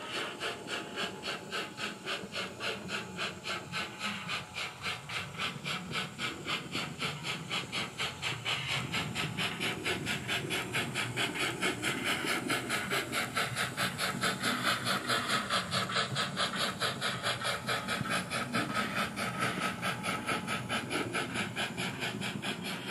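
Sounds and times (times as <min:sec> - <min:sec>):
model steam locomotive chuffing: 0:00.0 - 0:22.9.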